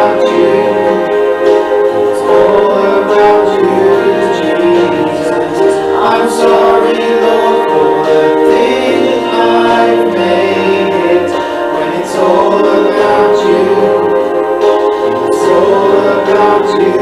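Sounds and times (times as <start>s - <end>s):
congregation singing: 0.0s - 17.0s
musical accompaniment: 0.0s - 17.0s.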